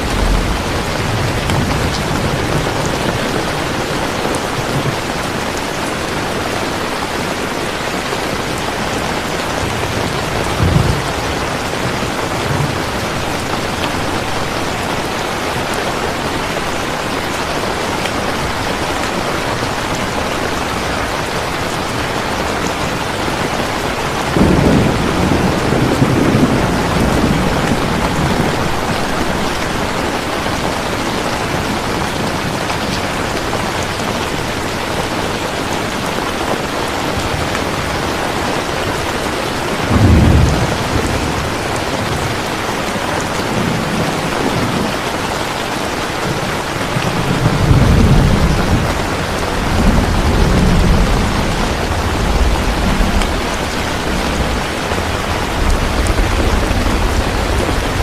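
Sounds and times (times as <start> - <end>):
thunder rumbling: 0.0 - 35.0, 37.2 - 58.0
heavy rain: 0.0 - 58.0.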